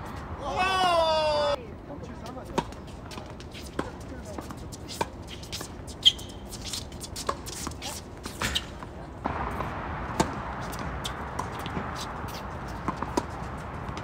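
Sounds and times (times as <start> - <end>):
tennis ball bouncing on hard court: 2.5 - 14.0
tennis ball hit by racquets: 2.5 - 14.0.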